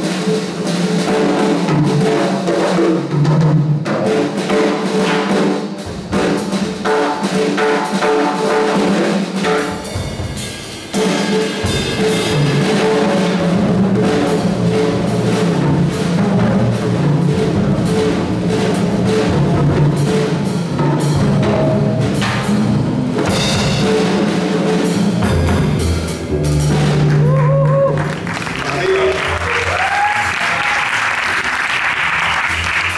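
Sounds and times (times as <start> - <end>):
drum kit strokes: 0.0 - 32.9
jazz band playing: 0.0 - 32.9.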